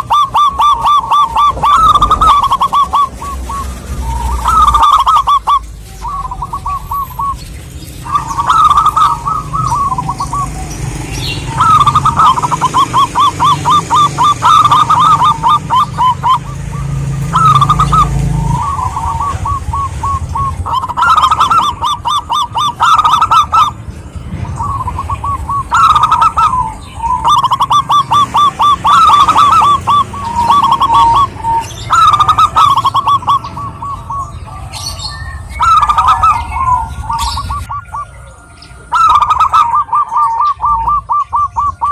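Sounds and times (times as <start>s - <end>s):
dove cooing: 0.0s - 41.9s.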